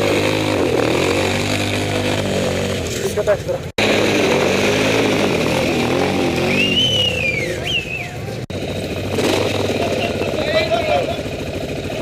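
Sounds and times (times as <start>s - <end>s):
quad engines revving: 0.0s - 12.0s.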